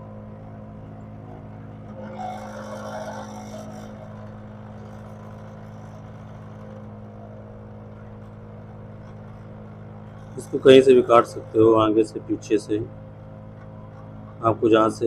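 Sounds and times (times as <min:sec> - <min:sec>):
machine electrical hum: 0:00.0 - 0:15.0.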